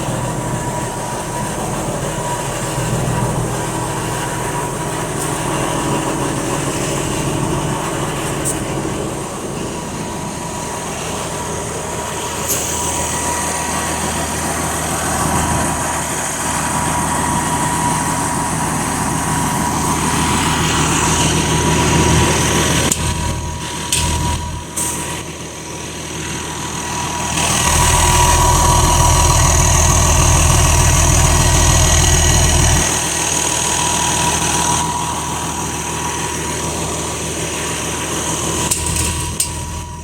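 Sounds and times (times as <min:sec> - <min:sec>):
bus diesel engine running: 0:00.0 - 0:40.0
thin steady whine: 0:00.0 - 0:40.0.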